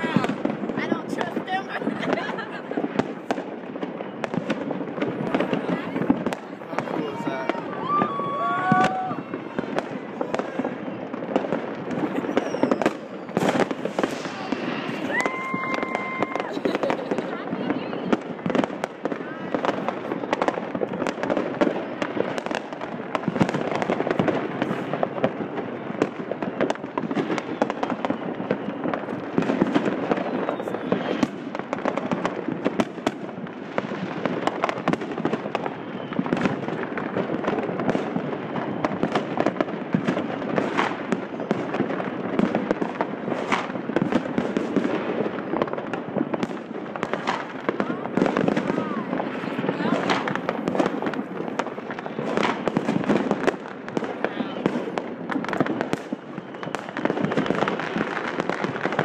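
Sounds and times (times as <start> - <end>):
fireworks and firecrackers bangs: 0.0 - 59.0.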